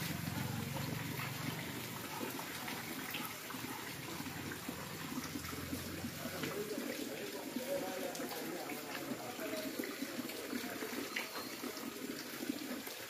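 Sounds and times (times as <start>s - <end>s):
water splashing in shallow water: 0.0s - 13.0s.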